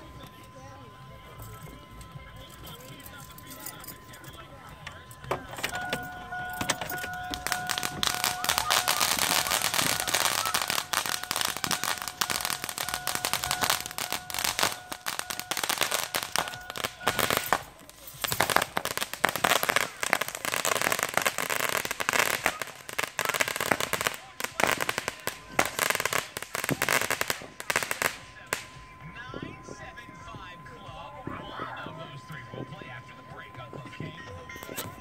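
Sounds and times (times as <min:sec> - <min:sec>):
fireworks crackling and popping: 0:00.0 - 0:35.0
high firework whistle: 0:00.0 - 0:35.0.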